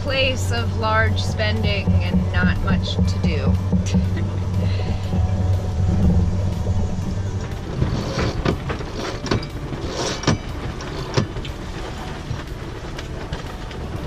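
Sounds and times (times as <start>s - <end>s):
water splashes: 0.0s - 14.0s
wind and water rushing: 0.0s - 14.0s.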